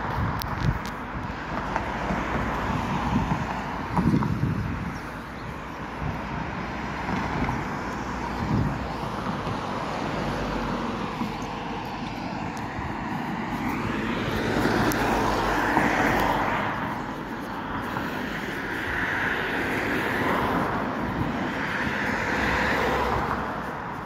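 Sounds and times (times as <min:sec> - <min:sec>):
cars passing on street: 0:00.0 - 0:24.0.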